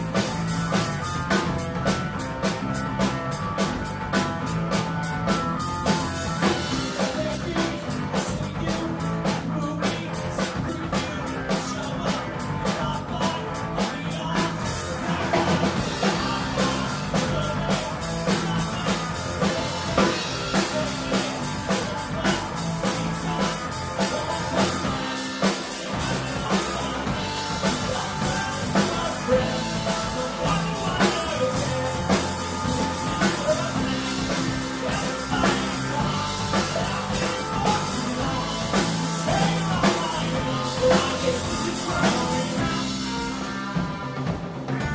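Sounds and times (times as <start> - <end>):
even drum beat: 0.0 - 44.9
rock band playing: 0.0 - 44.9.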